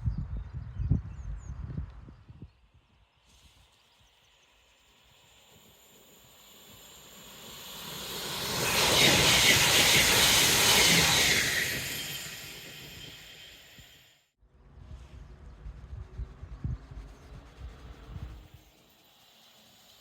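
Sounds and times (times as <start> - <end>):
train passing at speed: 3.2 - 20.0.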